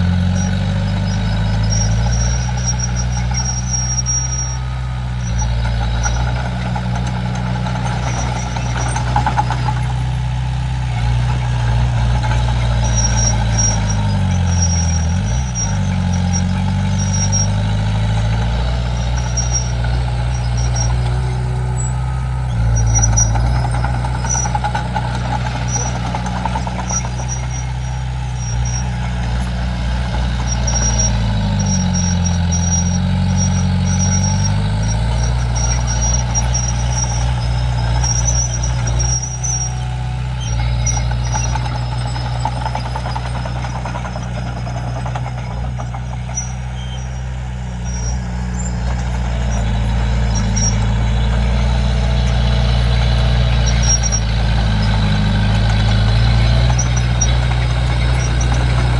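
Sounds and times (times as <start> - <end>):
bulldozer diesel engine running: 0.0 - 58.9
faint high-pitched squeaks: 0.1 - 58.9.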